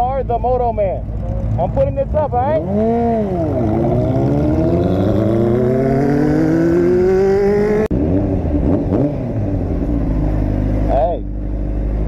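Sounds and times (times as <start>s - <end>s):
motorcycle engine revving: 0.8s - 12.0s.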